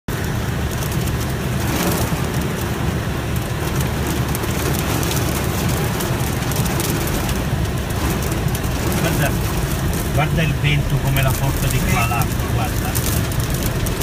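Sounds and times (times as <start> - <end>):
heavy rain pouring: 0.1 - 14.0
wind rumbling on microphone: 0.1 - 14.0.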